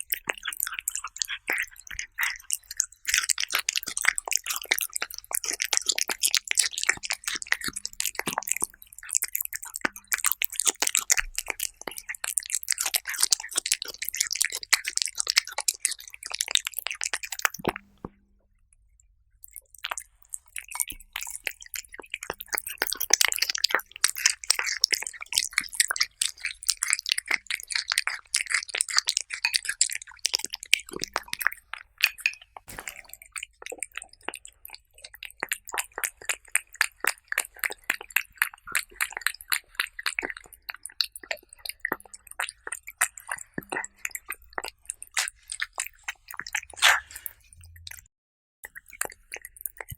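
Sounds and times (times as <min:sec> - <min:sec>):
cats chewing and lapping: 0:00.0 - 0:18.1, 0:19.4 - 0:49.9.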